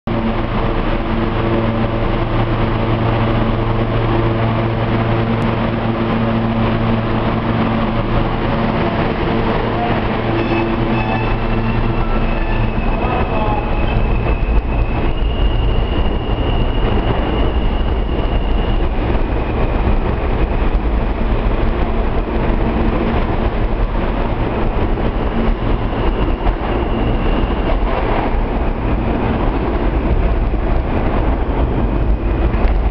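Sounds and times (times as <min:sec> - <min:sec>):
subway train wheels rumbling: 0:00.1 - 0:32.9.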